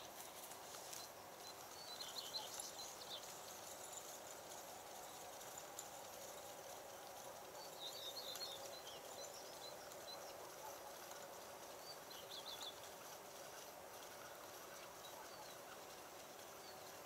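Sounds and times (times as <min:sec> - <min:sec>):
faint outdoor ambience: 0:00.0 - 0:17.0
small birds twittering: 0:00.1 - 0:17.0.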